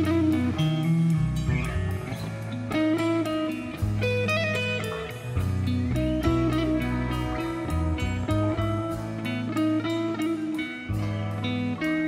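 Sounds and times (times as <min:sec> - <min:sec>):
electric guitar lead: 0:00.0 - 0:12.0
strummed guitar: 0:00.0 - 0:12.0.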